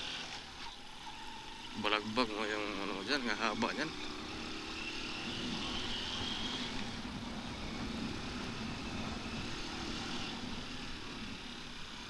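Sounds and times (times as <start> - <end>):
motorcycle engine running: 0.0 - 12.0
rushing wind noise: 1.1 - 12.0.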